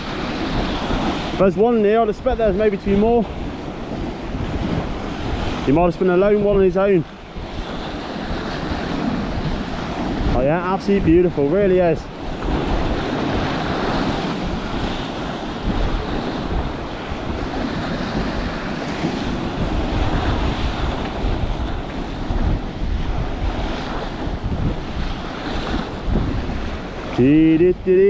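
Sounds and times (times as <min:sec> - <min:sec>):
sea waves breaking over rocks: 0:00.0 - 0:28.0
wind buffeting microphone: 0:00.0 - 0:28.0.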